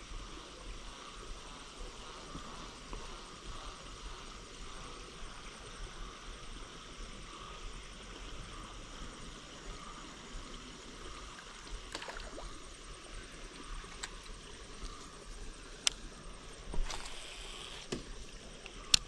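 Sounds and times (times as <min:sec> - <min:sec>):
faint water sounds: 0:00.0 - 0:19.0
steady soft hiss: 0:00.0 - 0:19.0.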